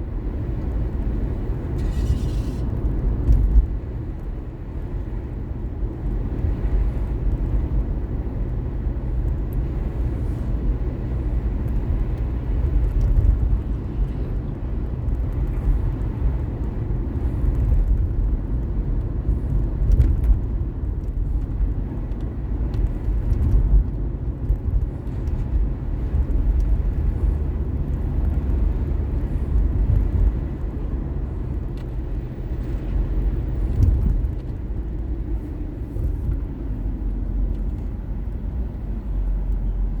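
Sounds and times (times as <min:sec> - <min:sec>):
car tyres and engine rumble: 0:00.0 - 0:40.0.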